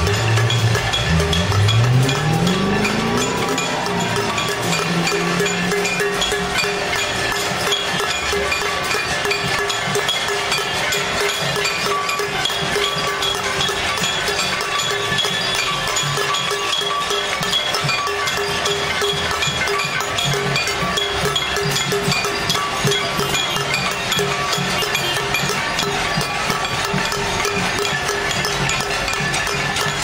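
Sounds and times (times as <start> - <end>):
pots and pans being beaten: 0.0 - 30.0.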